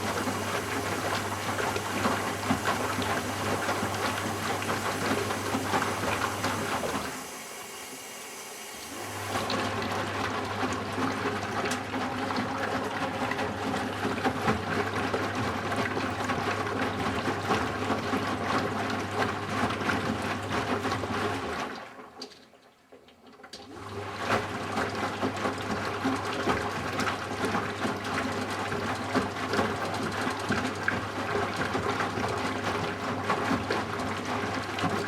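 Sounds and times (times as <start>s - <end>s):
water rushing into washing machine: 0.0s - 35.0s.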